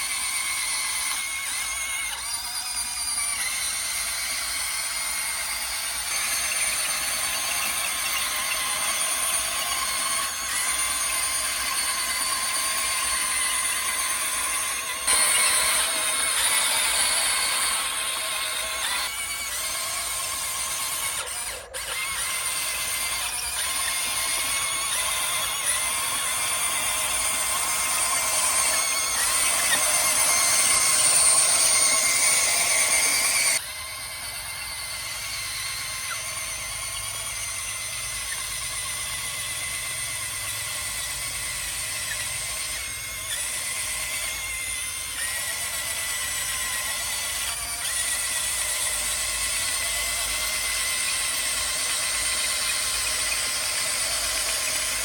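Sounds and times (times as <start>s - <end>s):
electric motor gear whine: 0.0s - 55.0s.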